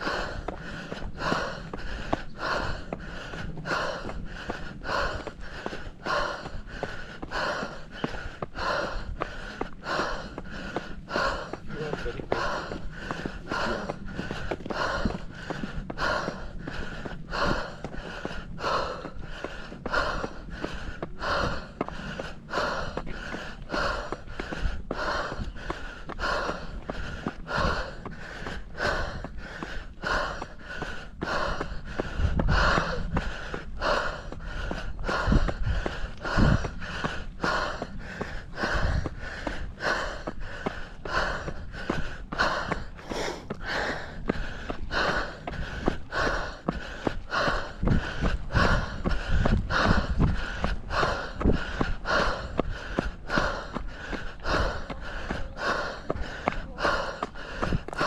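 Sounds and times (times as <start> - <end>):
low rumbles: 0.0 - 58.0
person panting heavily: 0.0 - 58.0.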